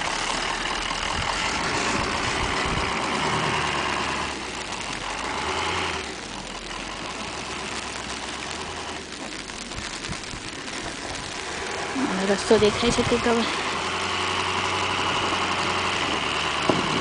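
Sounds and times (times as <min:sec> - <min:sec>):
snow removal engine running: 0:00.0 - 0:17.0.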